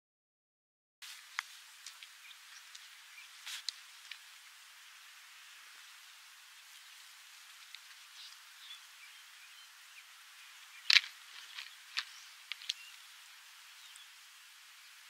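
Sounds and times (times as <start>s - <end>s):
steady thin hiss: 1.0s - 15.0s
faint chirps: 1.2s - 15.0s.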